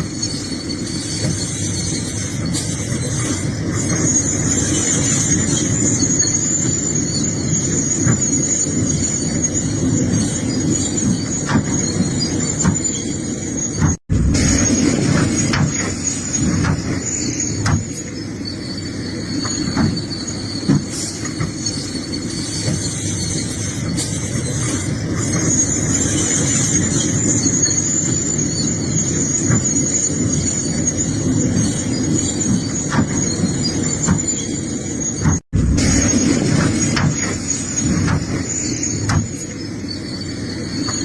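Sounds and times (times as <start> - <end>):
excavator engine running: 0.0 - 41.0
high-pitched squeal: 0.0 - 41.0.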